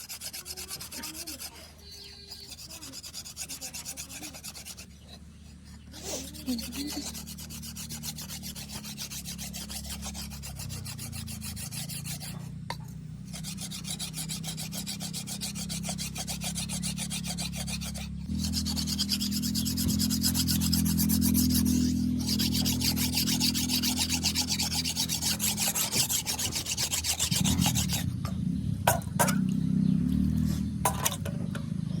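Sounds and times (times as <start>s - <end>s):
blade sharpening rasps: 0.0s - 28.1s.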